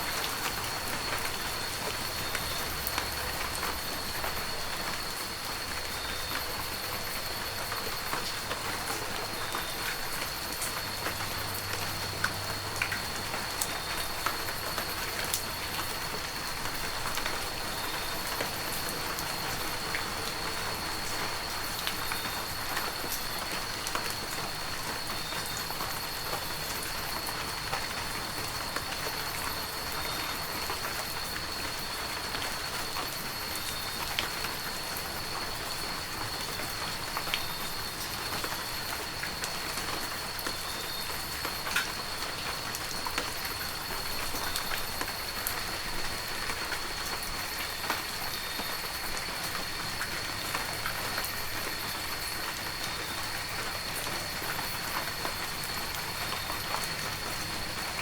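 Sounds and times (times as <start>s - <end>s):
raindrops ticking on a surface: 0.0s - 58.0s.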